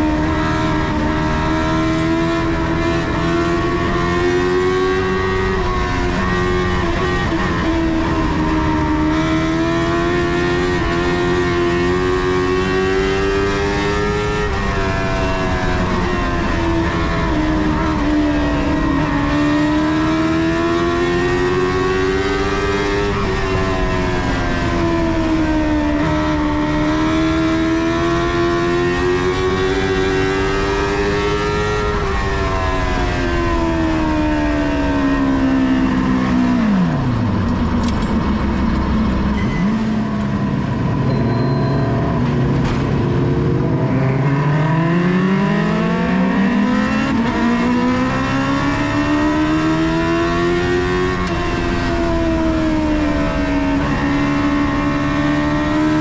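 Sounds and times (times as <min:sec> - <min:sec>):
small car engine racing: 0:00.0 - 0:56.0.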